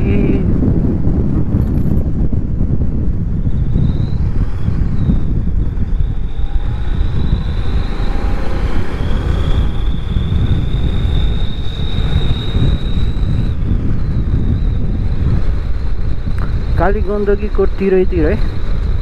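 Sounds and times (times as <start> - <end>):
motorcycle riding at speed: 0.0 - 19.0
wind buffeting microphone: 0.0 - 19.0
thin high whine: 3.2 - 19.0.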